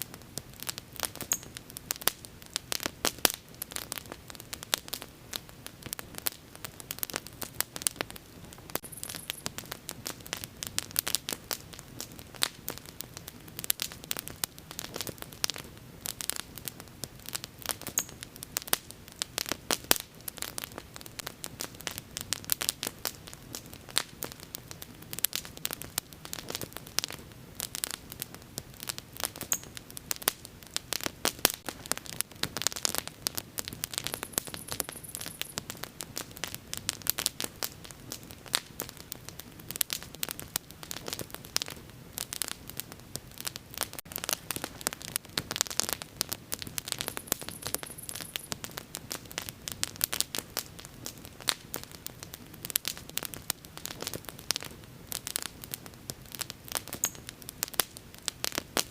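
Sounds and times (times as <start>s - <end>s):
bonfire crackling and popping: 0.0s - 58.9s.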